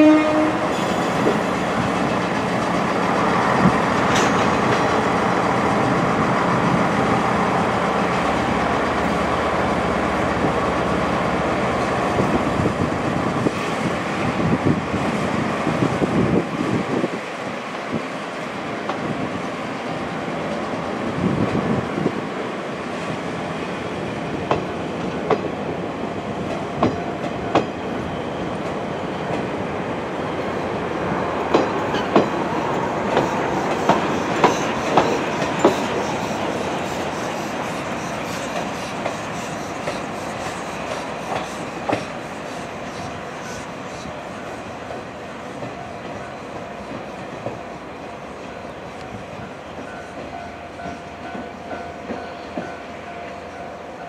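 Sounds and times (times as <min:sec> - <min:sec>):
train wheel noise: 0:00.0 - 0:54.0.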